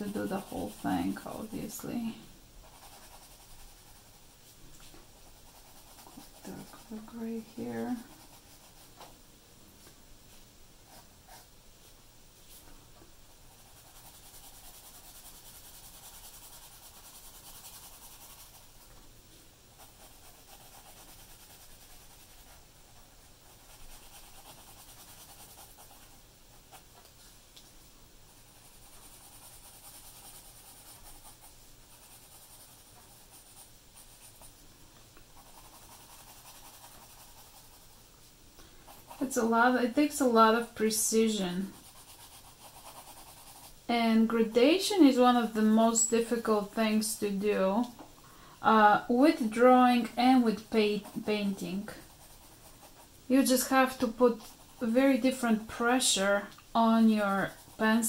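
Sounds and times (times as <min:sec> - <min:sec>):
pencil scratching on paper: 0:00.0 - 0:04.2, 0:05.1 - 0:09.1, 0:13.5 - 0:18.8, 0:19.8 - 0:26.8, 0:28.3 - 0:34.5, 0:35.4 - 0:38.0, 0:38.9 - 0:47.6, 0:49.2 - 0:58.0.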